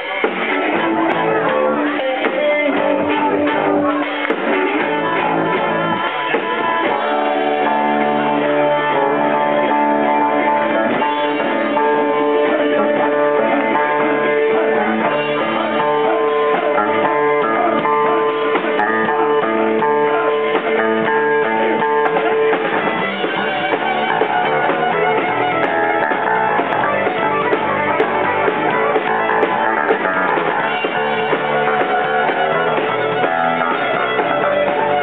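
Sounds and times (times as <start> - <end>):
drum kit: 0.0 - 35.0
electric guitar: 0.0 - 35.0
rock band playing live: 0.0 - 35.0.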